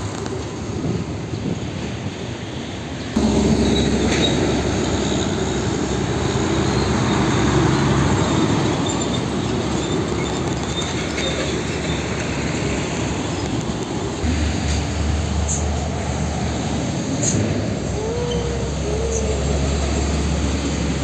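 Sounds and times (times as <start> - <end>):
truck engine rumbling: 0.0 - 21.0
trailer rattling: 3.2 - 21.0.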